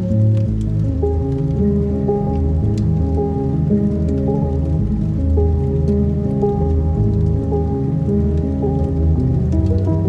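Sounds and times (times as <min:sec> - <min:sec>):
crackling fire: 0:00.0 - 0:10.0
slowed ambient music: 0:00.0 - 0:10.0.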